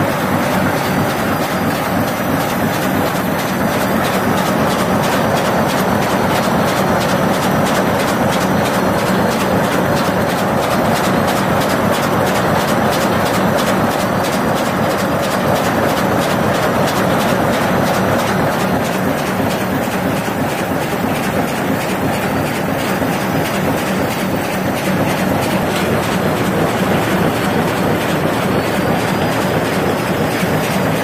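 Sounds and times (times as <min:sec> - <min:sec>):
machine clattering with rapid ticking: 0:00.0 - 0:31.0.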